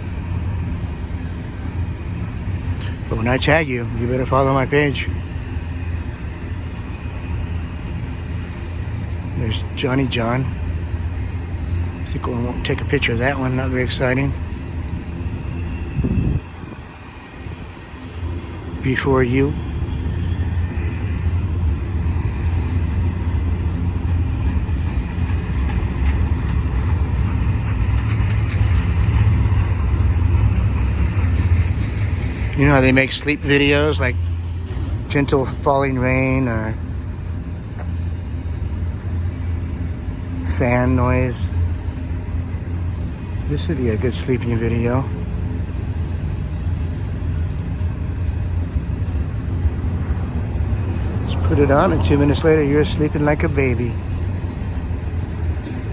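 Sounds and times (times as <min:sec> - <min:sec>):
freight train rumbling past: 0:00.0 - 0:55.9.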